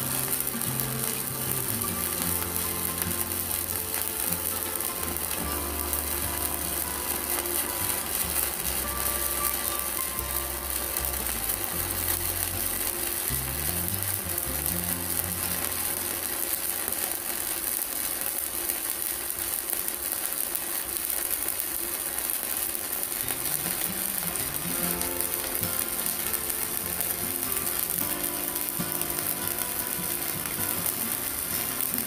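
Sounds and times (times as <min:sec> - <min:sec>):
welding arc crackling: 0:00.0 - 0:32.0.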